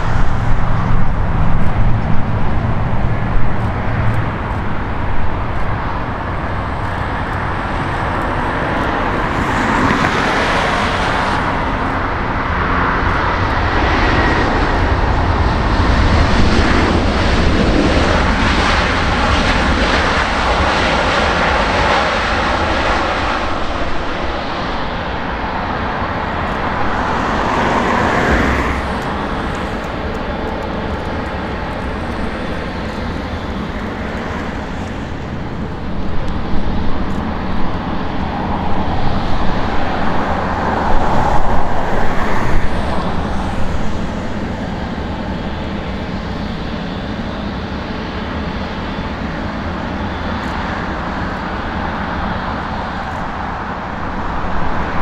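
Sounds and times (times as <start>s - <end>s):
jet engines roaring: 0.0s - 55.0s
low airliner rumble: 0.0s - 55.0s.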